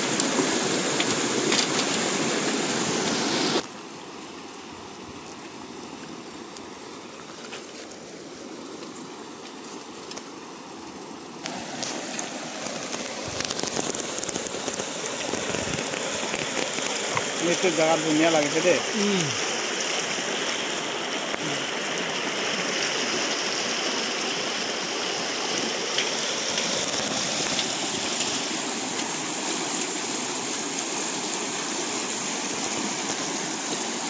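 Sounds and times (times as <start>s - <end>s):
river water rushing over stones: 0.0s - 34.0s.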